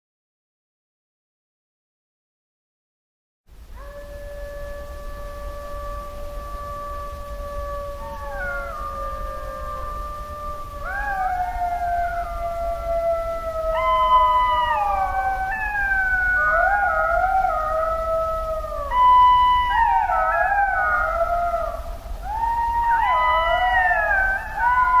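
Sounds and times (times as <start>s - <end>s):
jackals howling in chorus: 3.8s - 25.0s.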